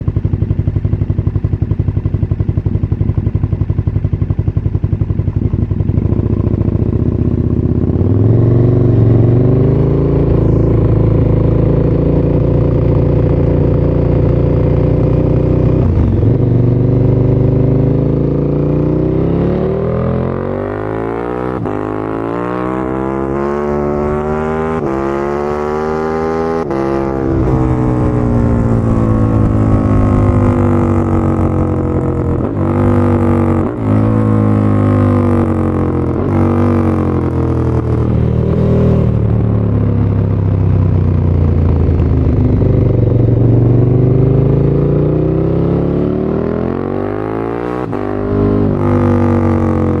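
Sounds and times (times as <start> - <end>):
motorcycle accelerating through gears: 0.0 - 50.0
motorcycle engine revving: 0.0 - 50.0.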